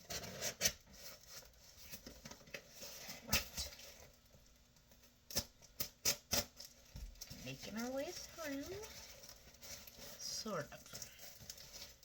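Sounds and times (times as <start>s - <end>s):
cardboard and packing rustling: 0.0s - 12.0s.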